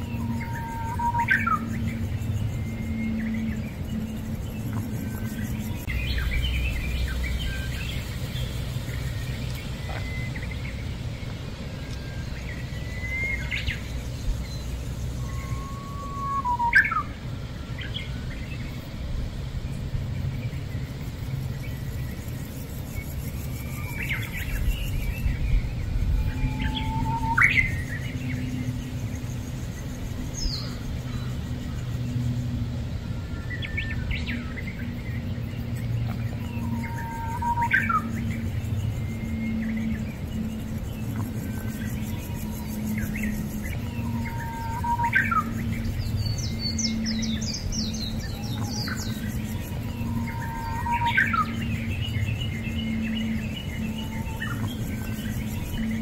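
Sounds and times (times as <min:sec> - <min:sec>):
birds chirping: 0:00.0 - 0:56.0
low background rumble: 0:00.0 - 0:56.0.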